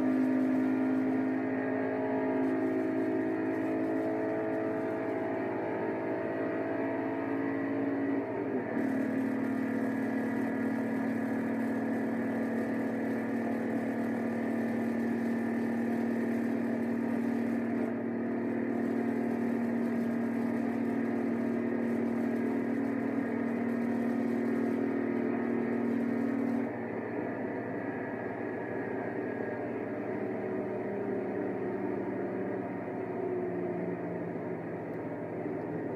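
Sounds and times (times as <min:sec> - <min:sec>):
car engine accelerating: 0:00.0 - 0:35.9.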